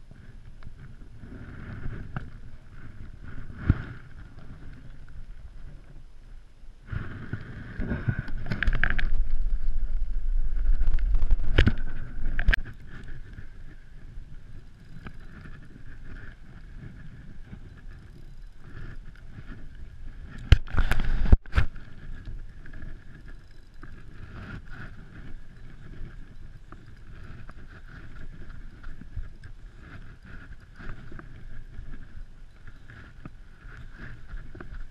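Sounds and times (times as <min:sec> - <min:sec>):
wind buffeting microphone: 0:06.8 - 0:34.9.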